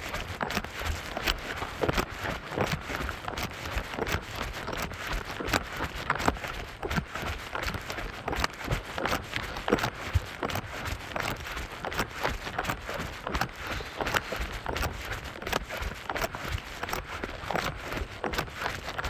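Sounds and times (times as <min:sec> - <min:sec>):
running footsteps: 0:00.0 - 0:19.0.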